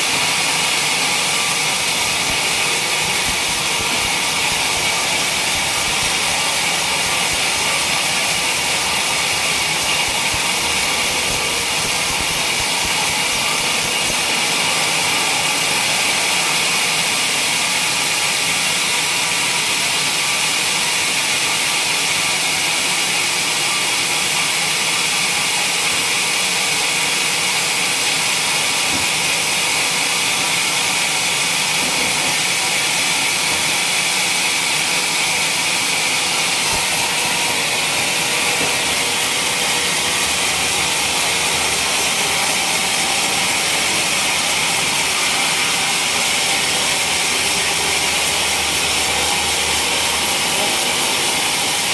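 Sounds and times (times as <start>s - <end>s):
sawmill hiss and whine: 0.0s - 51.9s.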